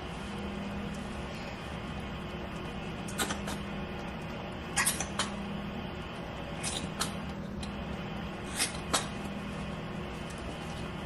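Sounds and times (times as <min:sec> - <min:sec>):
space heater humming: 0:00.0 - 0:11.0.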